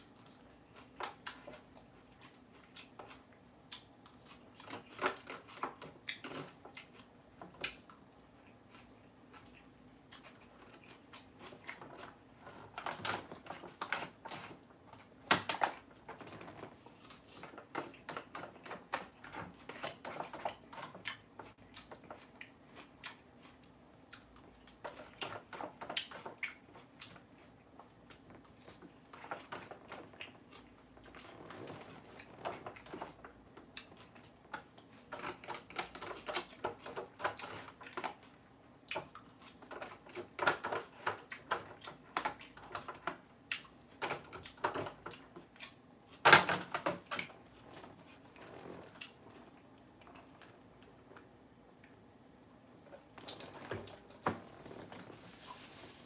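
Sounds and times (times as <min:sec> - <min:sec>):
crunchy chewing of lettuce: 0:00.0 - 0:46.2.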